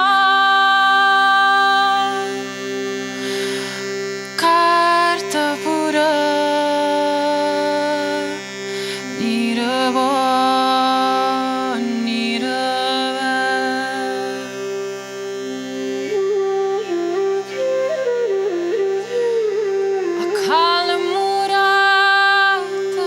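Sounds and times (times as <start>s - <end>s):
harmonium drone chord: 0.0s - 23.0s.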